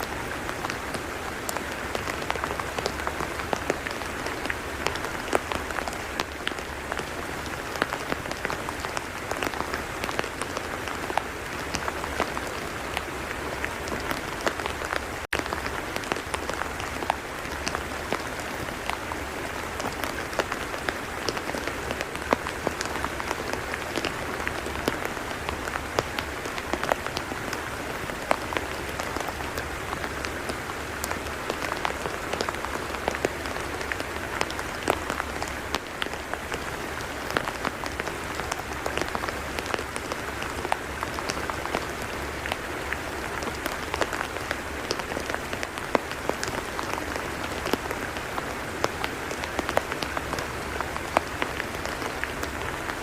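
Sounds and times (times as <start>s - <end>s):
steady rain falling on mud: 0.0s - 53.0s.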